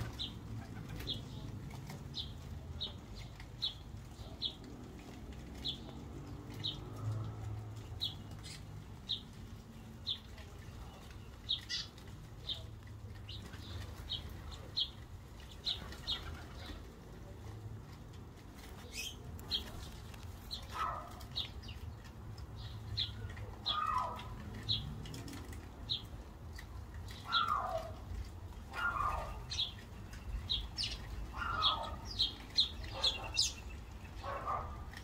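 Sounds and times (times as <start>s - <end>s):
sparrows chirping: 0.0s - 35.0s.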